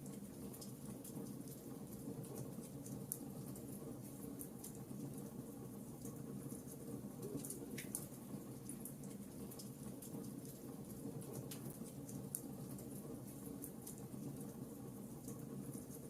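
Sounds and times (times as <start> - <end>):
logs crackling in fireplace: 0.0 - 16.0.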